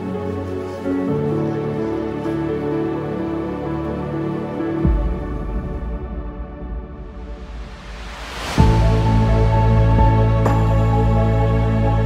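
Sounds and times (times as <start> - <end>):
music with sustained notes: 0.0 - 12.0.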